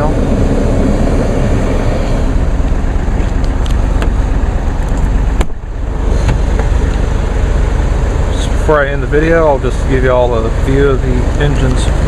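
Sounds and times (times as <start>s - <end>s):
car running: 0.0s - 12.0s
heater fan blowing: 0.0s - 12.0s.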